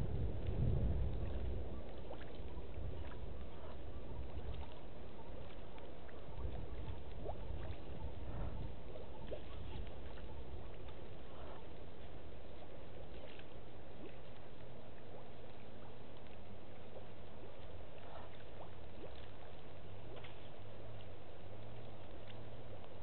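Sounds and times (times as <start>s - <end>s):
steady low rumble: 0.0s - 23.0s
faint ticks: 0.3s - 23.0s.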